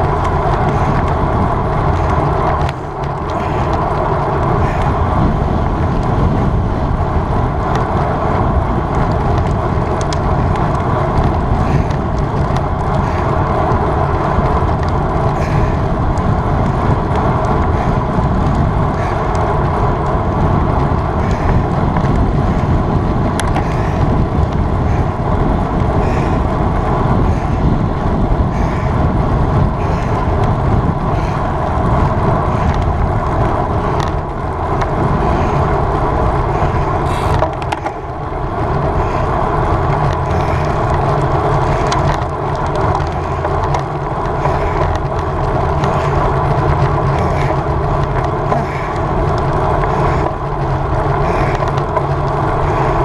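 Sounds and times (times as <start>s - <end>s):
bicycle road noise: 0.0s - 53.0s
wind rush on microphone: 0.0s - 53.0s.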